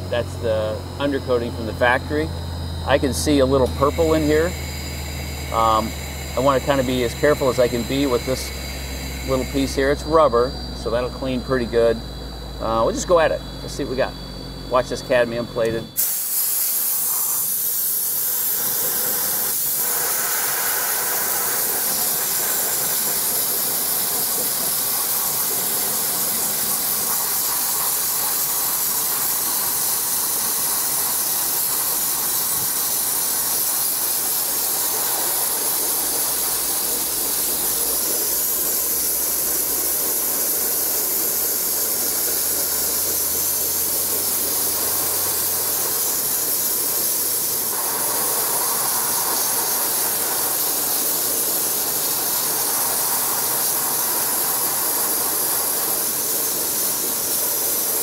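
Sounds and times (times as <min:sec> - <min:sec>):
dry ice blasting hiss: 0:00.0 - 0:58.0.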